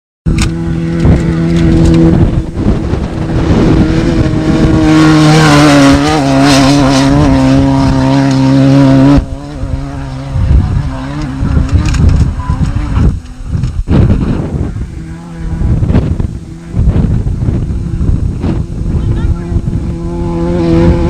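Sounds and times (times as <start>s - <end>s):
engine running at high revs: 0.3s - 21.0s
wind-like rumble: 0.3s - 21.0s.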